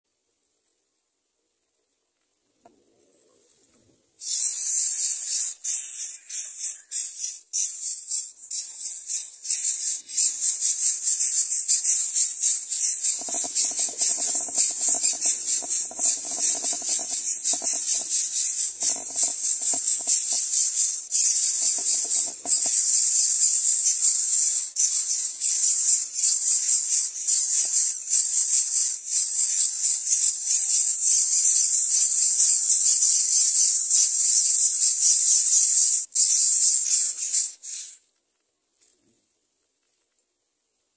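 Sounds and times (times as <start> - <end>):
nestlings rasping begging calls: 4.2 - 38.0.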